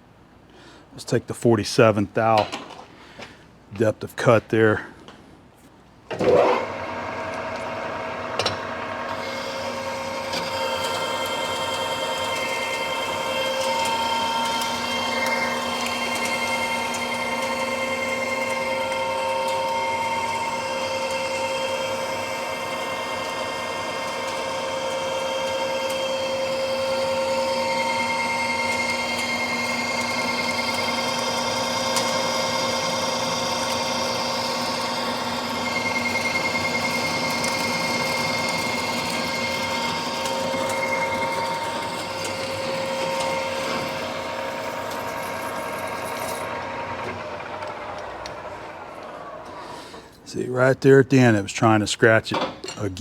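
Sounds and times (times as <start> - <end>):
lathe drive whine: 6.1 - 50.2.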